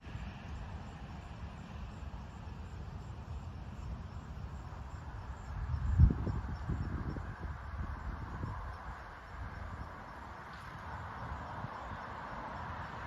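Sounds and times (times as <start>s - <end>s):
wind rumble on microphone: 0.0s - 13.0s
faint insect chirps: 0.1s - 13.0s.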